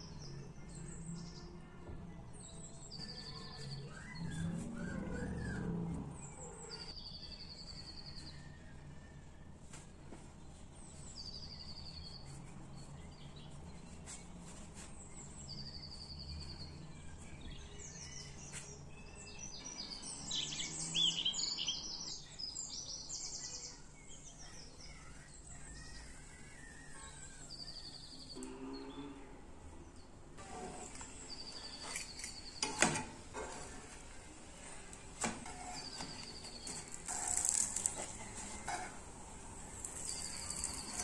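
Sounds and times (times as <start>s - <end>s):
small birds singing: 0.0s - 41.0s.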